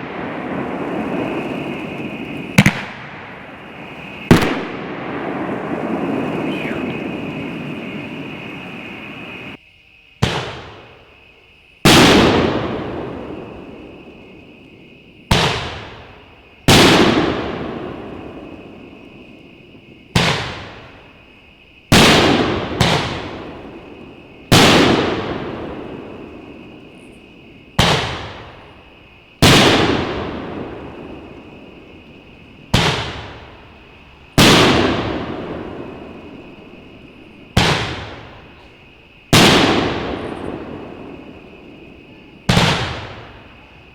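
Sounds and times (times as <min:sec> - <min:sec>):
firework booms with echo: 0:00.0 - 0:09.6, 0:10.2 - 0:43.9.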